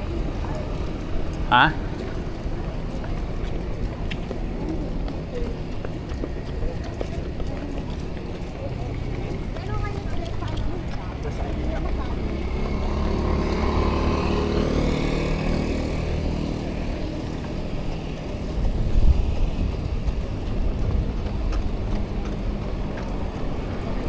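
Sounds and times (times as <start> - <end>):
low traffic rumble: 0.0 - 24.0
vehicle engine passing: 0.0 - 24.0.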